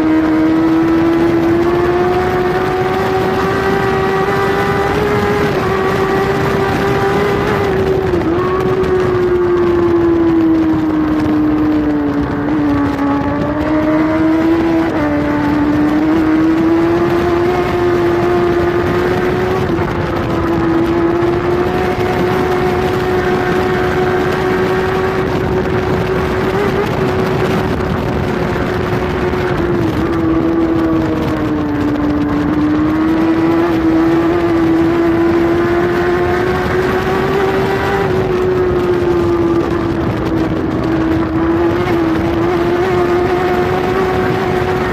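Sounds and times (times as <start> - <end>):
motorcycle engine at high revs: 0.0 - 44.9
wind rush: 0.0 - 44.9.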